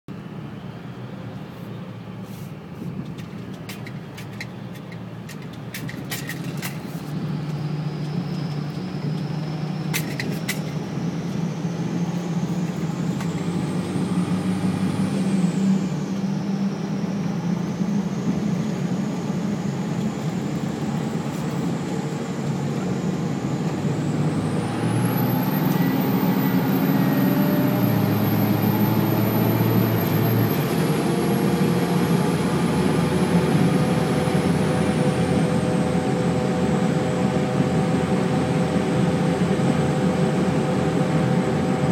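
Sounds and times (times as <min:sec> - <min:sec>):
diesel engine under load: 0:00.1 - 0:41.9
turbocharger whistling: 0:07.3 - 0:41.9.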